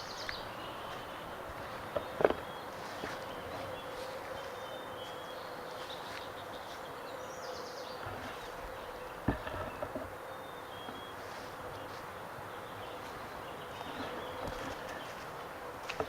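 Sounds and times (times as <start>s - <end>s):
faint steady hum: 0.0s - 16.0s
steady background hiss: 0.0s - 16.0s.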